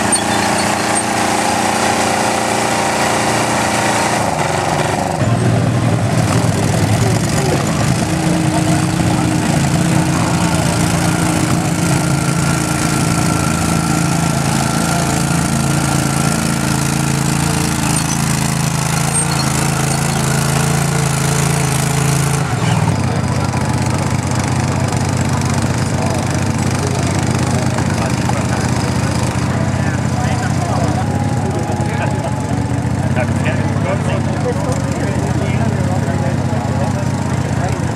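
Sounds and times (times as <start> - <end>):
small tractor engine running hard: 0.0 - 37.9.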